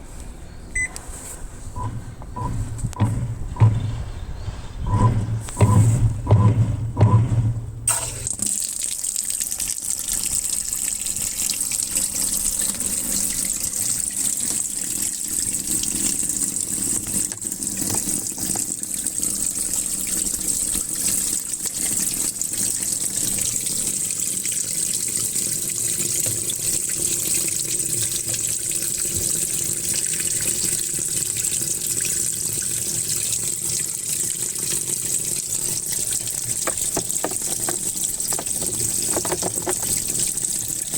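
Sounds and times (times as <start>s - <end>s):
water gushing into washing machine: 1.8s - 40.9s.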